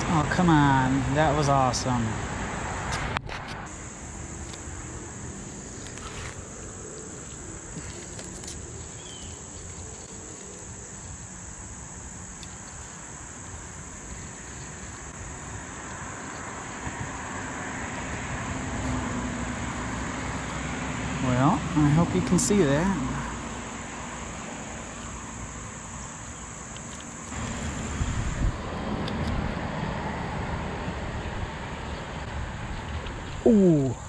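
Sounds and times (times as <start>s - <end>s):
insects singing: 0.0s - 34.0s.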